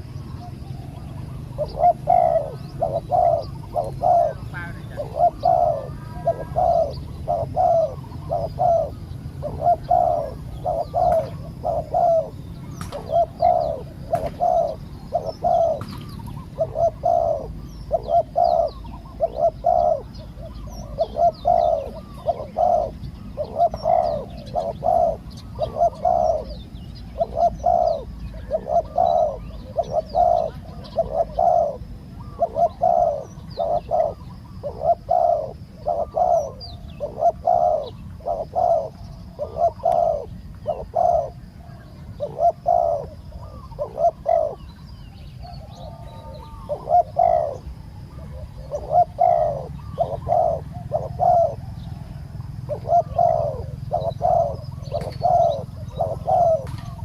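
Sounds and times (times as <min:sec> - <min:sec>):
doves cooing: 0:00.0 - 0:57.0
small birds chirping: 0:00.0 - 0:57.0.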